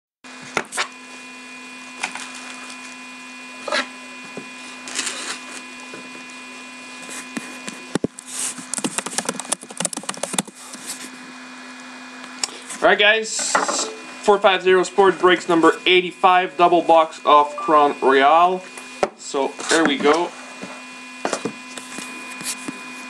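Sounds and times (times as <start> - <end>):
low electrical hum: 0.3 - 22.8.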